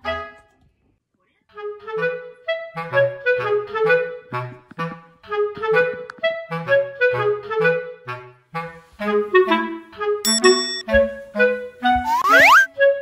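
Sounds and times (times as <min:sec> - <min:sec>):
bouncy woodwind music with bass: 0:00.0 - 0:00.5, 0:01.5 - 0:13.0.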